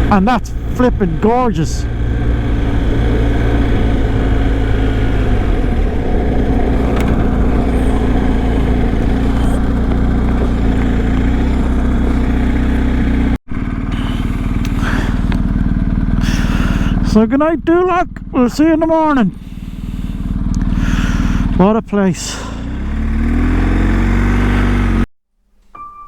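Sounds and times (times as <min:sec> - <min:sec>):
motorcycle engine running: 0:00.0 - 0:25.1
wind and road noise: 0:00.0 - 0:25.1.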